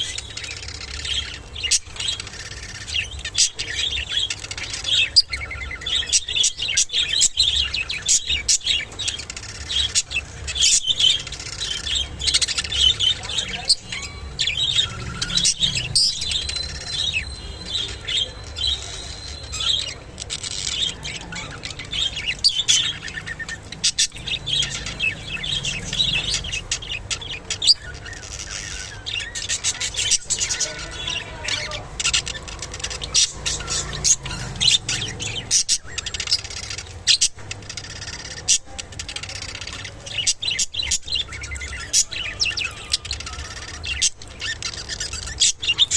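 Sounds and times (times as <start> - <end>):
budgerigars chirping and chattering: 0.0 - 45.9.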